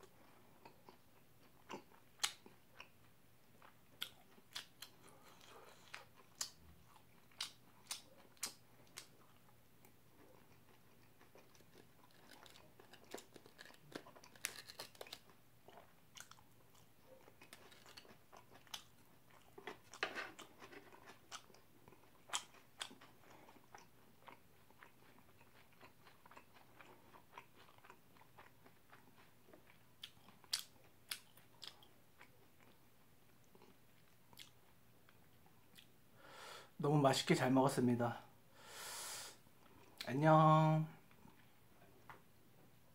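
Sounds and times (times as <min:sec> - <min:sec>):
chewing crunchy fried food: 0:00.0 - 0:36.0.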